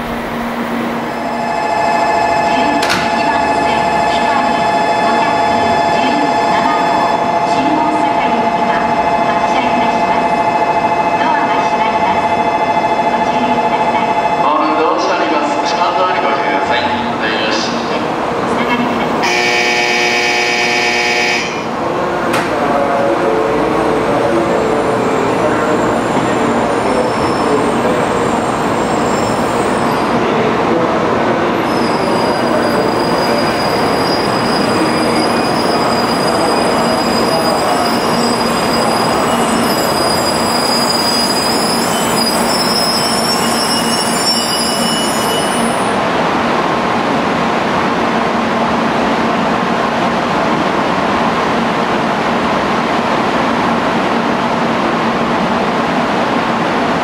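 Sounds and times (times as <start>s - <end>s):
train rolling noise: 0.0s - 57.0s.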